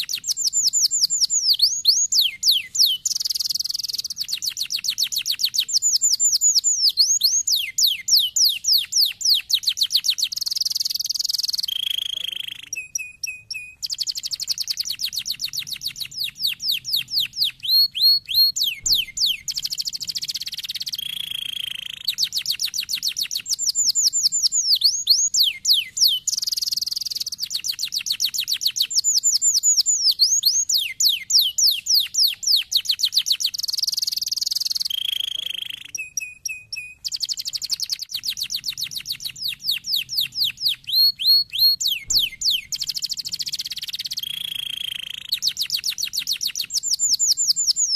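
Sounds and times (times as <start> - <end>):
canary singing: 0.0 - 47.9.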